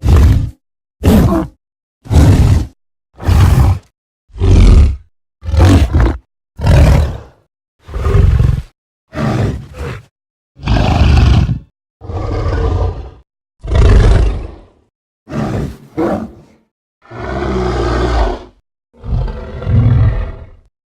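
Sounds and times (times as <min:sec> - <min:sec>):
giant ape roars and grunts: 0:00.0 - 0:20.7.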